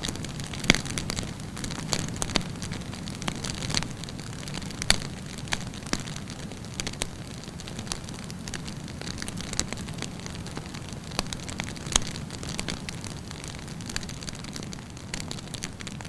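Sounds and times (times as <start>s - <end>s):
campfire crackling and popping: 0.0s - 16.0s
low rumble of flame: 0.0s - 16.0s.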